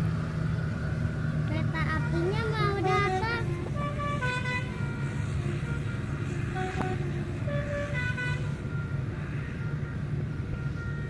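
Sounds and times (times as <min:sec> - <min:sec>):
bus engine rumbling: 0:00.0 - 0:11.0
musical bus horn tune: 0:01.9 - 0:11.0.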